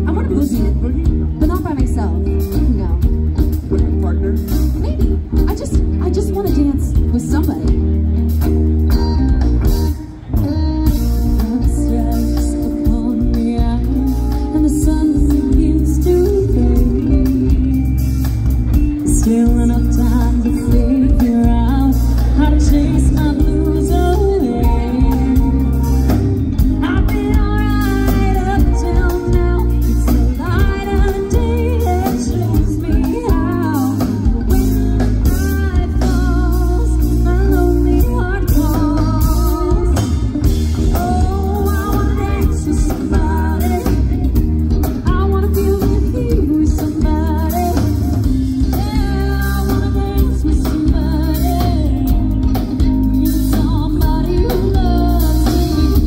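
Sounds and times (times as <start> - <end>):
drum kit: 0.0 - 56.0
electric bass: 0.0 - 56.0
electric guitar: 0.0 - 56.0
woman singing lead: 0.0 - 56.0.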